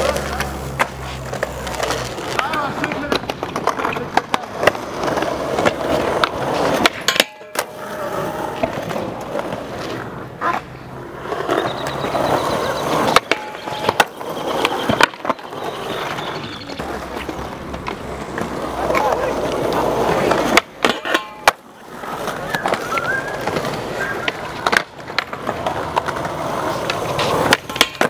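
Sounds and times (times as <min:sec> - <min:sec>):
skateboard wheels rolling on concrete: 0:00.0 - 0:28.0
skateboards clacking down: 0:00.0 - 0:28.0.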